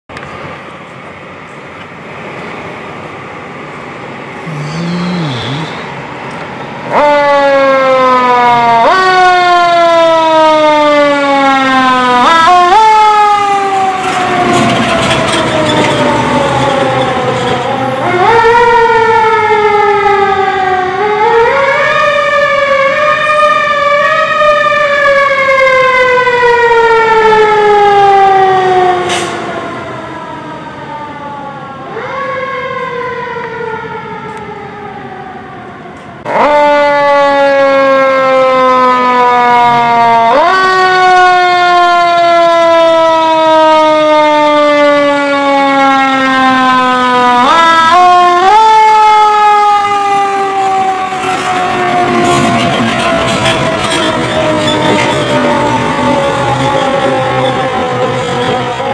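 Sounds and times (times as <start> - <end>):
fire engine siren wailing: 2.6 - 58.9.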